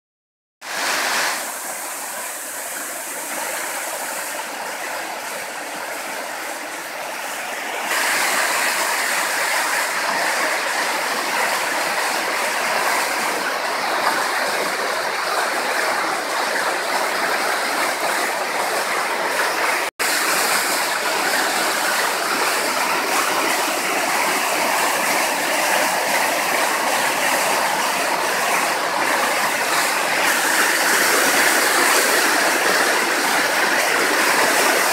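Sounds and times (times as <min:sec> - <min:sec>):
floodwater rushing in stream: 0:00.6 - 0:34.9.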